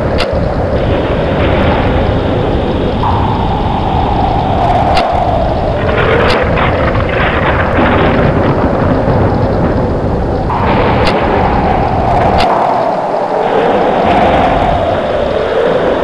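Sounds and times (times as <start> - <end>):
sharp thunder cracks: 0.0 - 16.0
thunder rumbling: 0.0 - 16.0.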